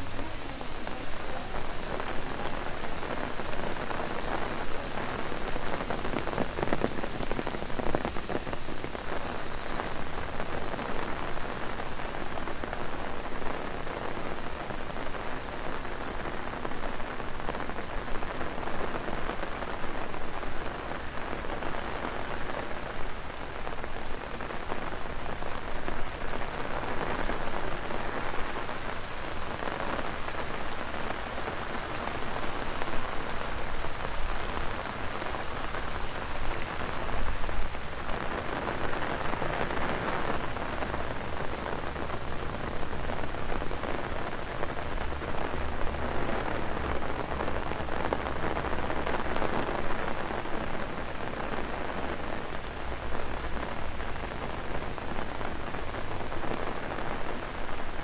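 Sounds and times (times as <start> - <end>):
cicadas droning: 0.0 - 58.0
rain pattering on an umbrella: 0.0 - 58.0.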